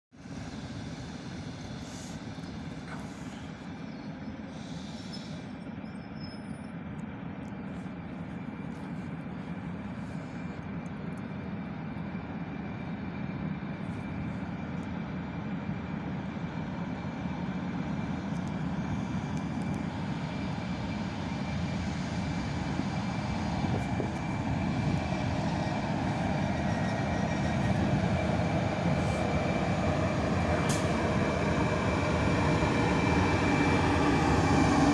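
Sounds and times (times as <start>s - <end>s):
electric locomotive rumbling: 0.1s - 34.9s.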